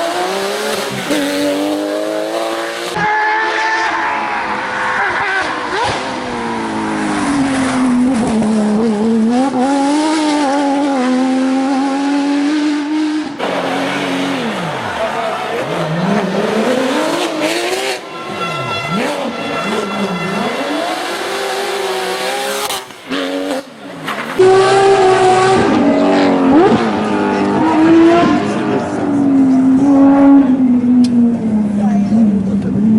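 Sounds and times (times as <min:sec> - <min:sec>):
race car engine revving: 0:00.0 - 0:32.9.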